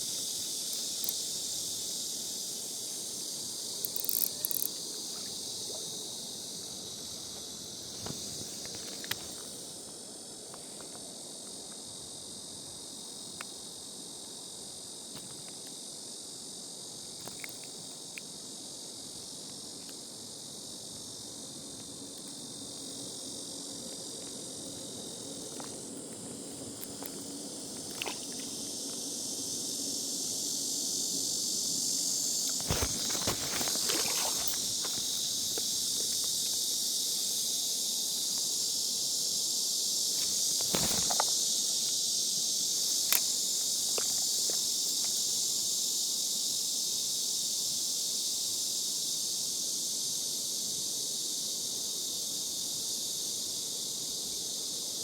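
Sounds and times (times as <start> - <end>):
insects buzzing high and shrill: 0.0 - 9.9, 20.4 - 55.0.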